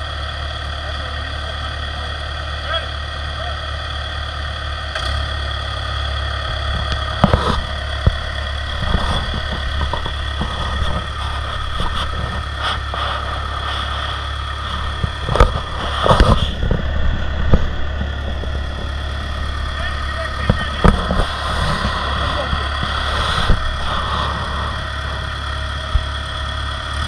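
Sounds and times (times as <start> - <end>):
construction equipment engine running: 0.0 - 27.0.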